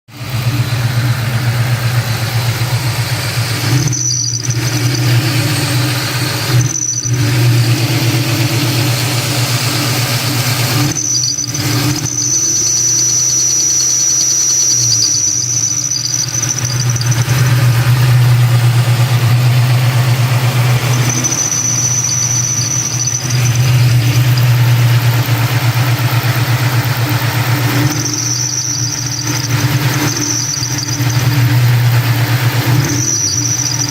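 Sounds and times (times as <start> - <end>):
car engine running: 0.1 - 33.9
high thin belt squeal: 0.4 - 33.9.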